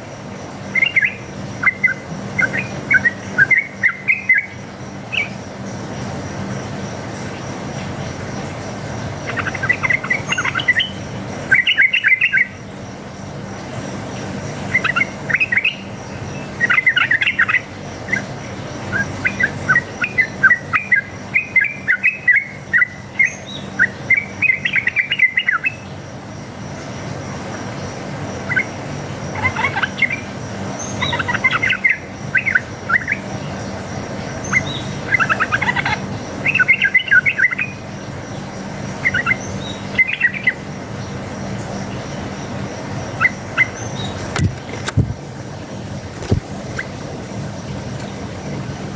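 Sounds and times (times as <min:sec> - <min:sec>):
bulbuls singing: 0:00.0 - 0:48.9.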